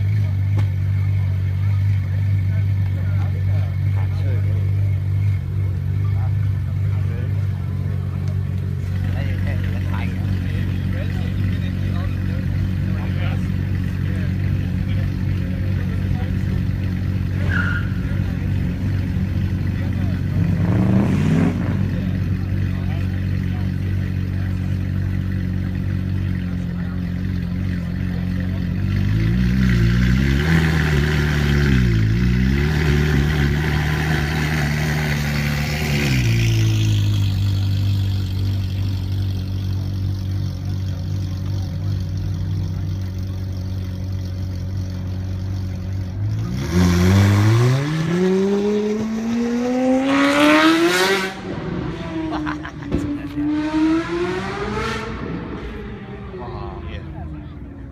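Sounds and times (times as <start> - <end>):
sports car engine revving: 0.0 - 57.9.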